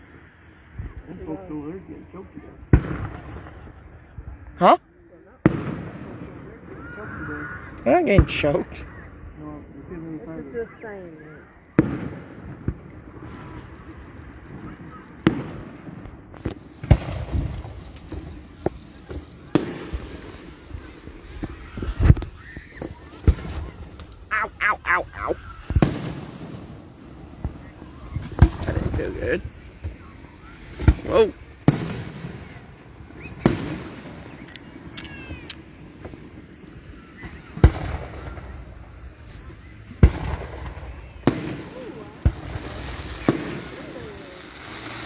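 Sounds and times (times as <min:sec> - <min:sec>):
fireworks exploding: 0:00.6 - 0:04.6, 0:05.4 - 0:45.0.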